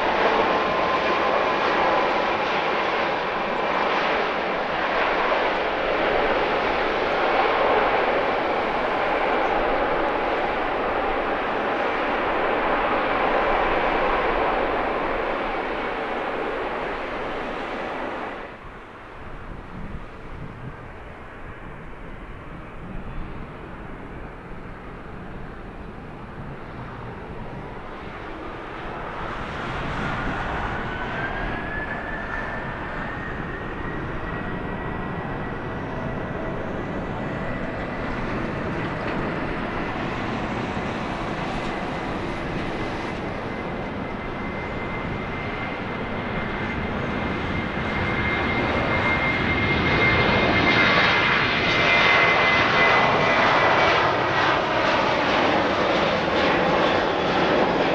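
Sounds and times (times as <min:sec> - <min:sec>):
jet engines spooling up: 0:00.0 - 0:57.9.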